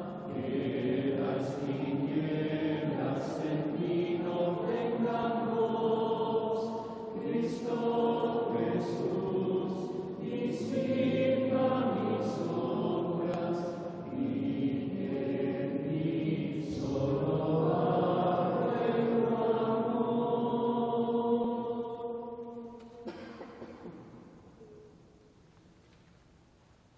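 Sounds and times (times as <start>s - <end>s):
congregation singing a chant: 0.0s - 24.4s.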